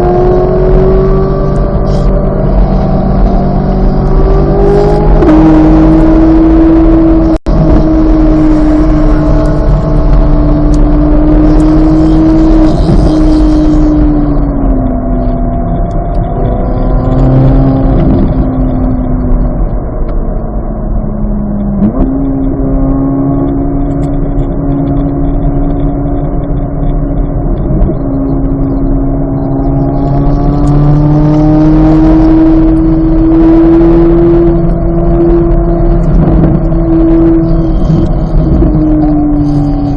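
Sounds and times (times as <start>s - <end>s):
sports car engine running hard: 0.0s - 39.9s.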